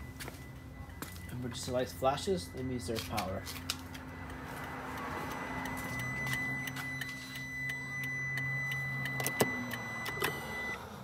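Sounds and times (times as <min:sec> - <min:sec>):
high electronic tone: 0:00.0 - 0:10.8.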